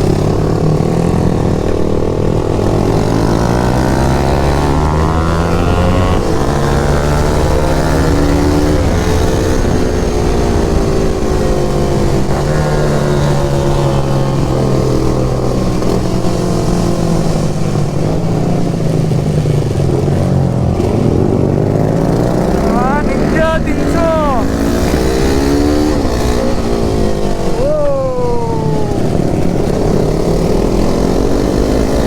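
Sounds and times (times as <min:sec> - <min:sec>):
motorcycle engine revving: 0:00.0 - 0:23.3, 0:24.4 - 0:32.0.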